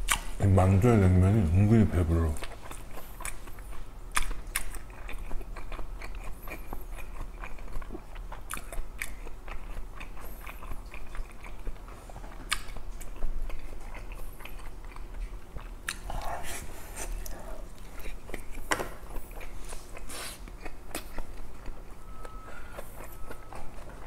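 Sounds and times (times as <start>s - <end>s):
chewing with mouth smacks: 2.1s - 24.0s.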